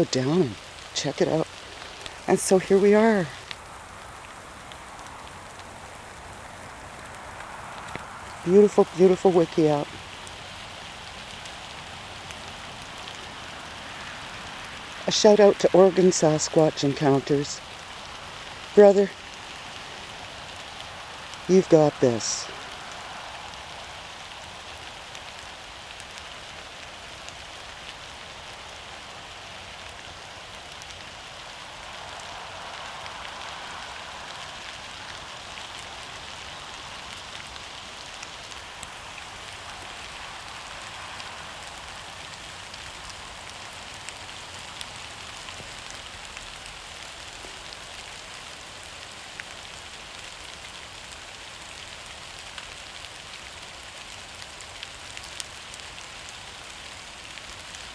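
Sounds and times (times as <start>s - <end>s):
rain falling on forest: 0.0s - 57.9s
raindrops ticking: 0.0s - 57.9s.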